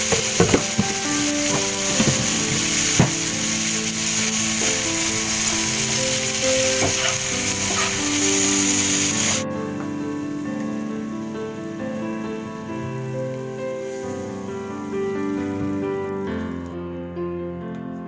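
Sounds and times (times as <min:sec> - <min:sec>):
vegetables sizzling in a frying pan: 0:00.0 - 0:16.6.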